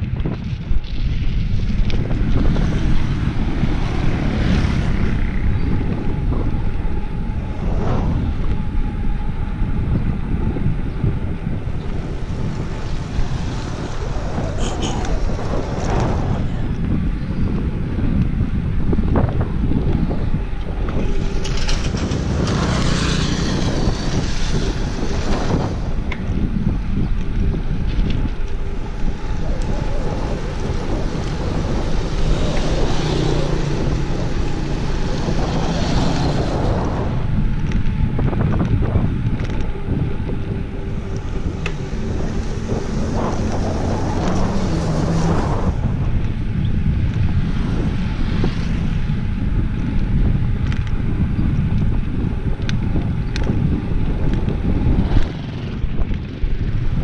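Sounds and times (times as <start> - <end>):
road and tyre noise: 0.0 - 57.0
wind buffeting microphone: 0.0 - 57.0.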